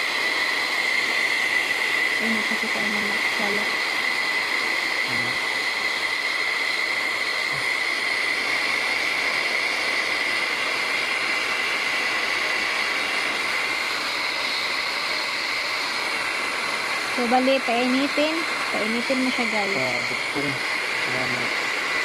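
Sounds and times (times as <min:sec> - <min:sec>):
hot-air gun fan whining: 0:00.0 - 0:22.0.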